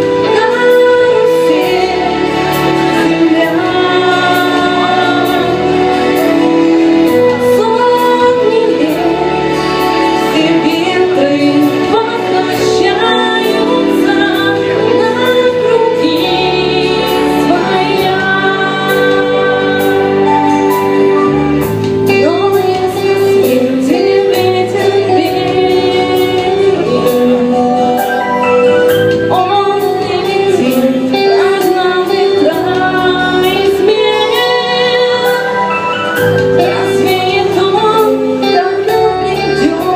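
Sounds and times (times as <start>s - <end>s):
instrumental backing with beat: 0.0s - 39.9s
woman singing: 0.0s - 39.9s.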